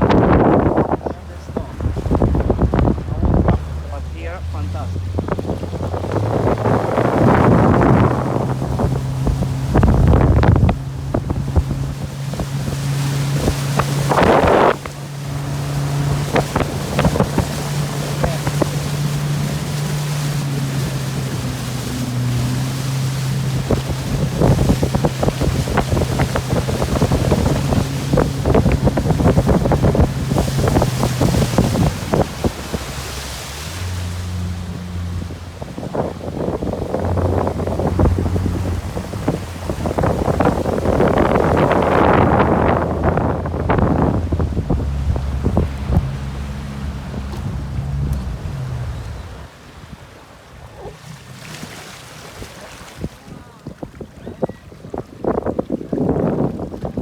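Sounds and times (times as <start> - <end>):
motorboat engine running: 0.0 - 57.0
water slapping along hull: 0.0 - 57.0
wind buffeting microphone: 0.0 - 57.0.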